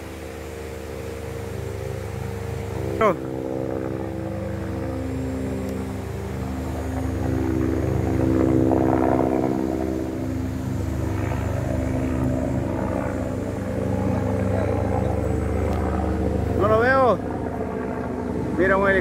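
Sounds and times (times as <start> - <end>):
helicopter rotor beat: 0.0 - 19.0.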